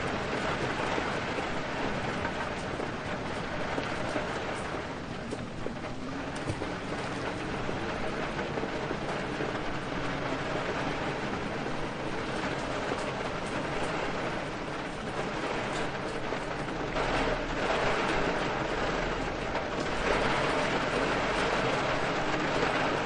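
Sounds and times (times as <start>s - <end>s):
steady rain: 0.0s - 23.0s
wind: 0.0s - 23.0s.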